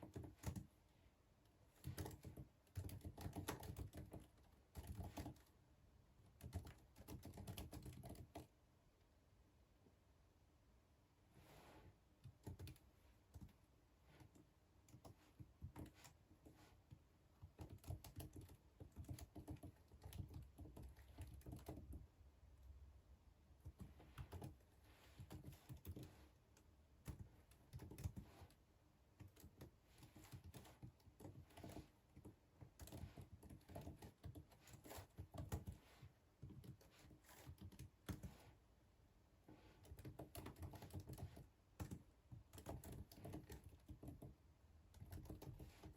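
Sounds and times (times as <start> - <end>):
faint keyboard typing: 0.0 - 0.8, 1.4 - 5.6, 6.2 - 8.6, 12.1 - 22.8, 23.5 - 38.6, 39.4 - 45.9.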